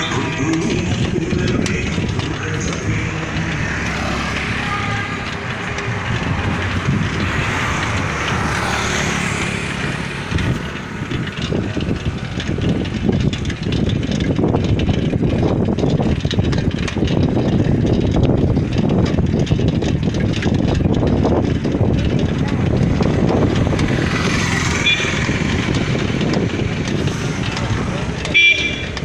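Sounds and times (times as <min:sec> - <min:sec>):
motorcycle engine: 0:00.0 - 0:29.0
road noise: 0:00.0 - 0:29.0
wind buffeting microphone: 0:00.0 - 0:29.0.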